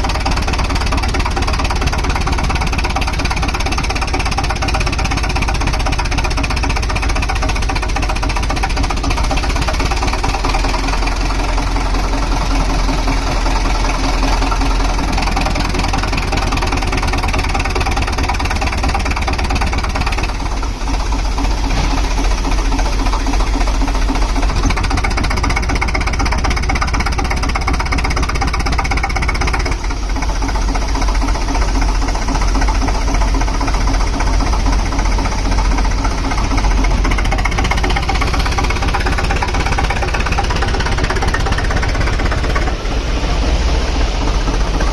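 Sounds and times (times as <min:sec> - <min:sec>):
compressor engine knocking: 0:00.0 - 0:44.9.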